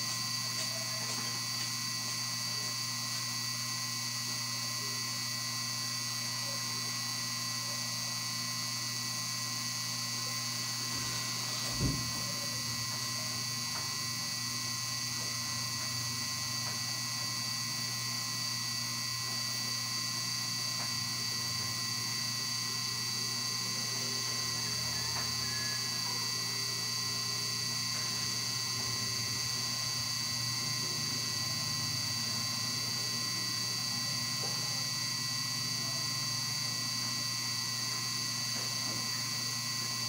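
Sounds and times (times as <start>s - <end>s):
faint high whining tones: 0.0s - 40.0s
steady electrical hum: 0.0s - 40.0s.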